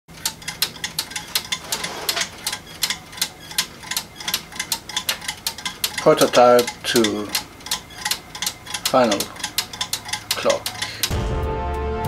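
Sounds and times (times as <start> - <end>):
clock escapement ticking: 0.1 - 11.1.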